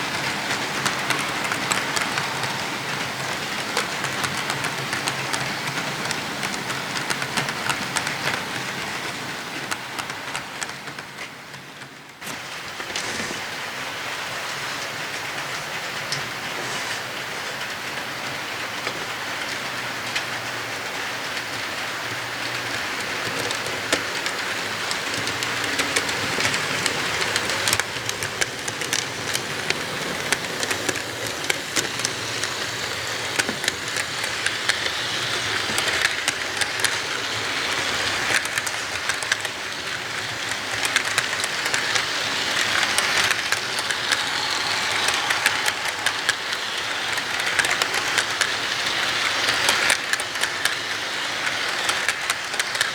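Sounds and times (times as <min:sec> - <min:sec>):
wheels clicking over rail joints: 0:00.0 - 0:13.6, 0:14.4 - 0:52.9
model train rolling rumble: 0:00.0 - 0:52.9.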